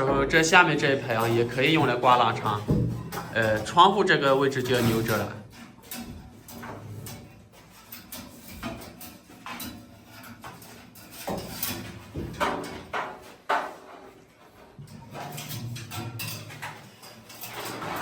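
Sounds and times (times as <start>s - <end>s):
bamboo poles knocking and clattering: 0.0s - 18.0s.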